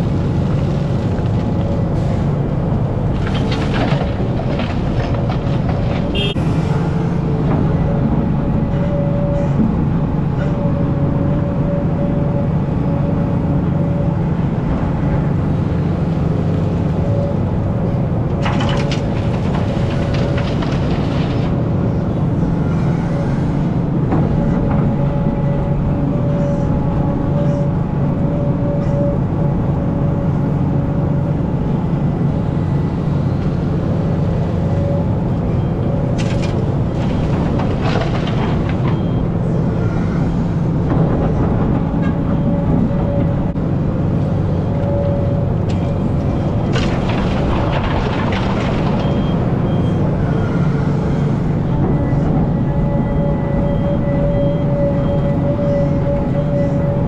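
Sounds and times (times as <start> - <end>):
excavator diesel engine running: 0.0 - 57.0
high engine whine: 0.0 - 57.0.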